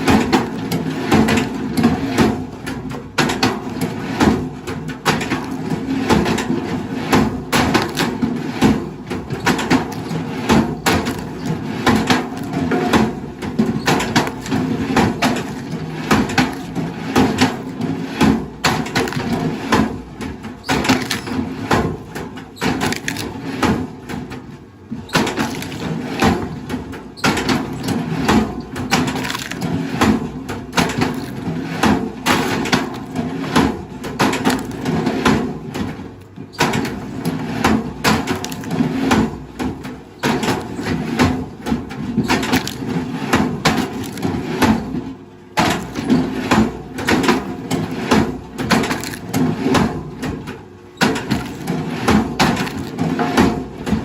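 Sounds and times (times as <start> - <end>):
wood cracking and splintering: 3.2 - 54.0.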